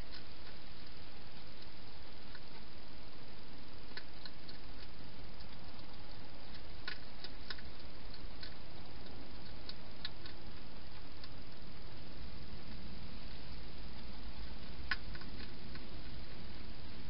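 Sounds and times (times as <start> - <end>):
hedgehog crunching food: 0.0 - 17.0
steady hiss: 0.0 - 17.0.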